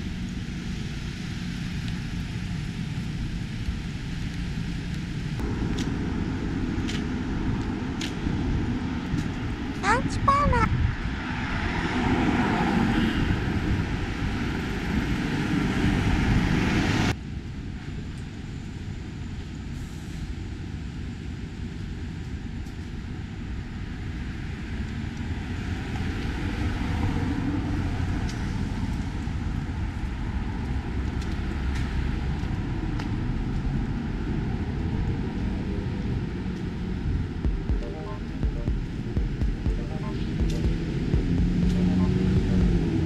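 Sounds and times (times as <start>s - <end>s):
city street traffic: 0.0s - 43.0s.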